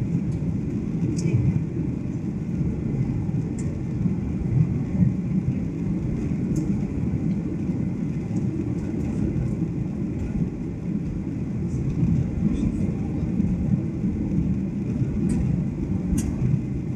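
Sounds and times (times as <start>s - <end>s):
jet engine rumble in cabin: 0.0s - 16.9s.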